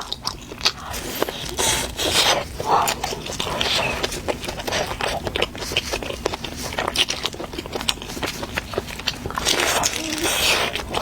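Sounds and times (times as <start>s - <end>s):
crunchy food chewing: 0.0s - 11.0s.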